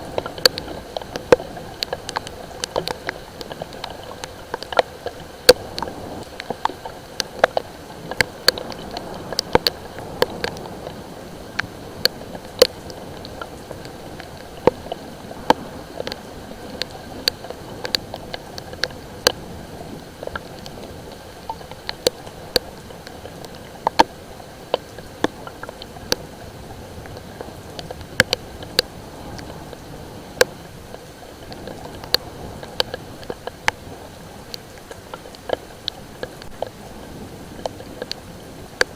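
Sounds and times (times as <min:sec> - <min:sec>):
raindrops ticking on hard surface: 0:00.0 - 0:38.9
steady rain hiss: 0:00.0 - 0:38.9.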